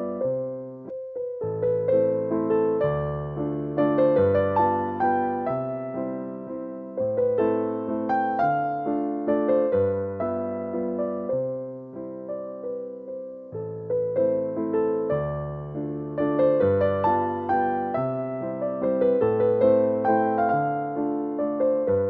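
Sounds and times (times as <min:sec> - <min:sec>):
slow solo piano waltz: 0:00.0 - 0:22.0.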